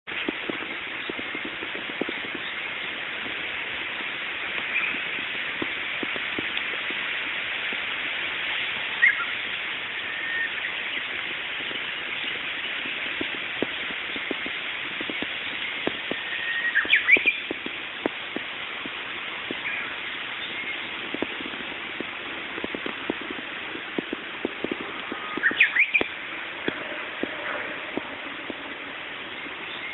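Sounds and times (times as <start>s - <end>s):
outdoor background hiss: 0.1s - 29.9s.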